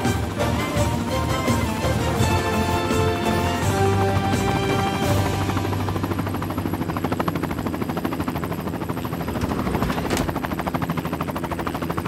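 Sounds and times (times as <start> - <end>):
helicopter rotor blades chopping: 0.0 - 12.0.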